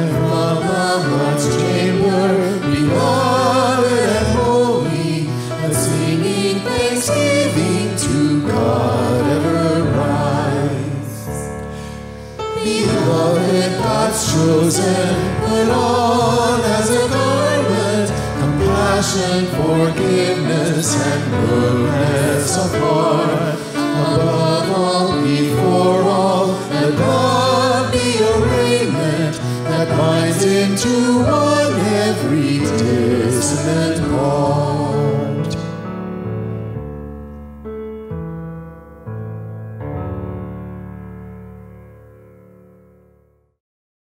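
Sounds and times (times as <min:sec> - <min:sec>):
voices singing a hymn: 0:00.0 - 0:35.8
instrumental accompaniment: 0:00.0 - 0:43.2.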